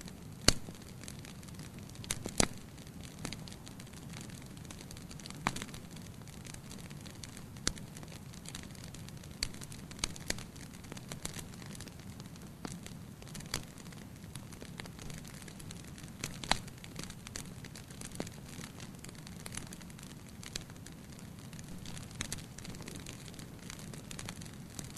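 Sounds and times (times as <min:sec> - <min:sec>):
fire crackling and popping: 0:00.0 - 0:24.9.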